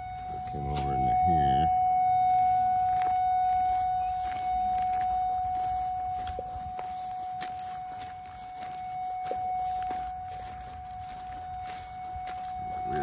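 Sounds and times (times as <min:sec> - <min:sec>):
footsteps on gravel: 0:00.0 - 0:13.0
locator steady tone: 0:00.0 - 0:13.0.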